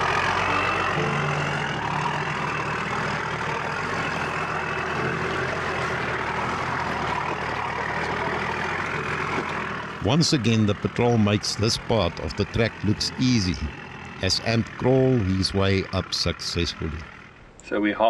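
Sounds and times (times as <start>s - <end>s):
vehicle engine running at low revs: 0.0s - 17.6s.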